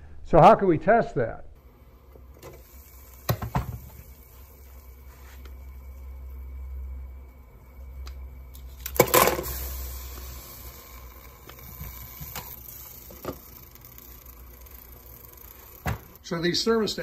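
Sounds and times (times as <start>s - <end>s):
water boiling in saucepan: 1.6s - 16.2s.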